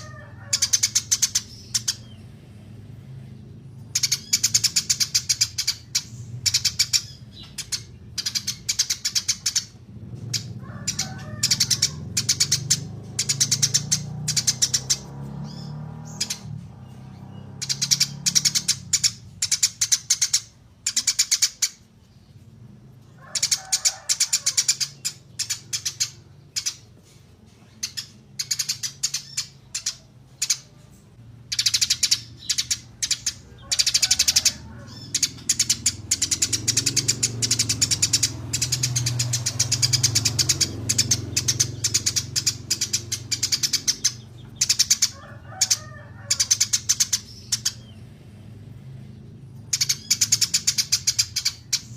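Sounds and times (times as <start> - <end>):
small songbirds chirping: 0.0 - 51.9.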